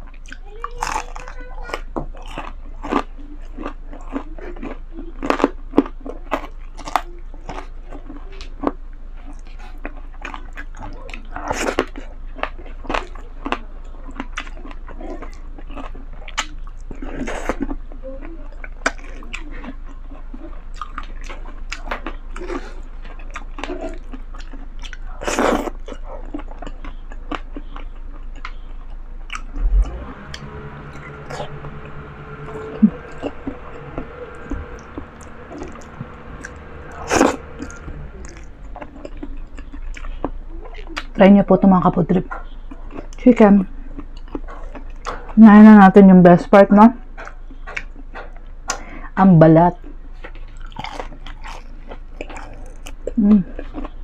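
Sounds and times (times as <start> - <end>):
person chewing noodles: 2.1 - 31.4, 32.1 - 41.2, 42.3 - 45.4, 49.8 - 54.0.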